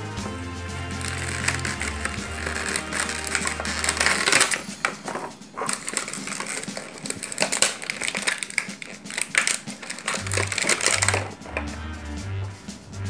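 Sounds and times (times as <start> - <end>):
plastic blister pack crackling: 1.0 - 11.7.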